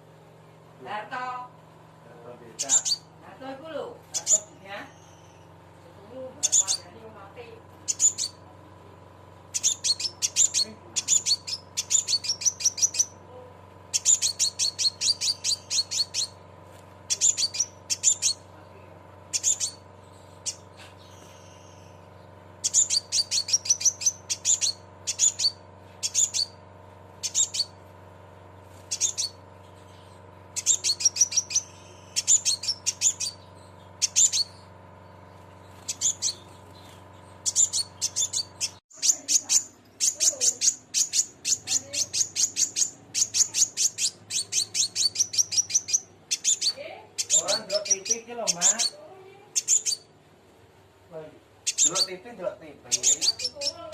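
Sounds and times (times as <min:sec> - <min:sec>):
faint steady hum: 0:00.0 - 0:53.9
sunbird sharp high chirps: 0:02.6 - 0:03.1, 0:04.1 - 0:05.5, 0:06.2 - 0:07.0, 0:07.8 - 0:08.5, 0:09.5 - 0:13.2, 0:13.9 - 0:16.4, 0:17.1 - 0:18.7, 0:19.3 - 0:26.6, 0:27.2 - 0:27.8, 0:28.6 - 0:50.1, 0:51.6 - 0:53.9.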